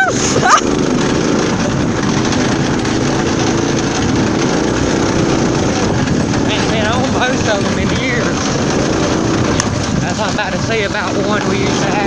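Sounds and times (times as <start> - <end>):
golf cart running: 0.0 - 12.0.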